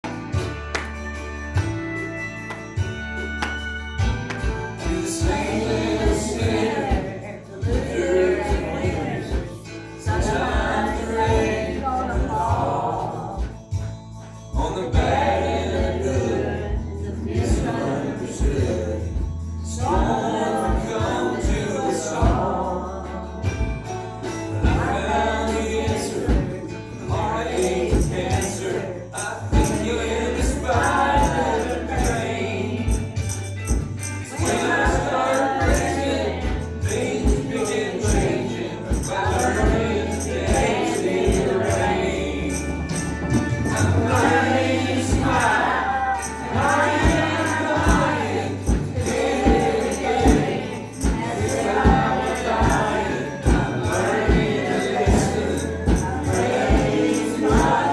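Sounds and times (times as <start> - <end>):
bass line: 0.0 - 57.9
regular percussion: 0.0 - 57.9
group of voices singing: 4.7 - 57.9.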